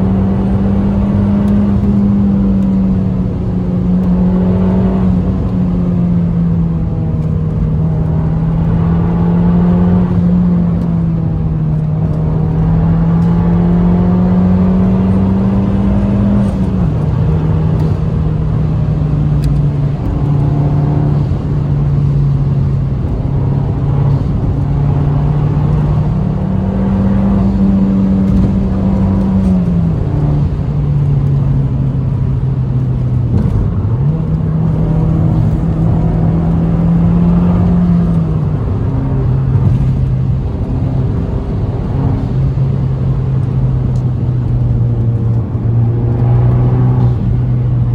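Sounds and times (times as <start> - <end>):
car engine pulling under load: 0.0 - 47.9.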